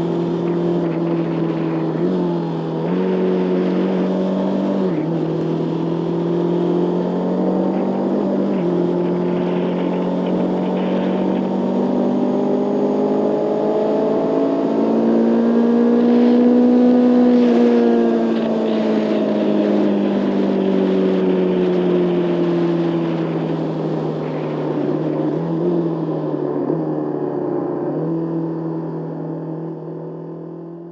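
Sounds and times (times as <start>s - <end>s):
wind noise: 0.0s - 26.2s
motorcycle engine running: 0.0s - 30.9s.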